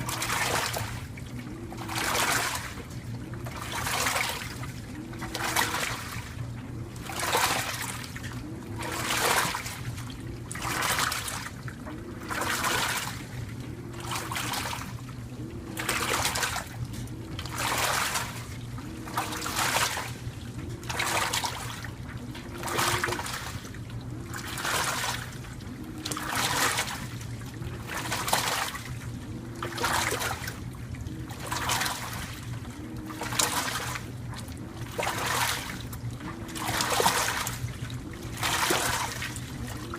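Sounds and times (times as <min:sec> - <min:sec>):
steady hum: 0:00.0 - 0:39.9
washing machine motor whining: 0:00.0 - 0:39.9
water splashing in washing machine: 0:00.0 - 0:39.9.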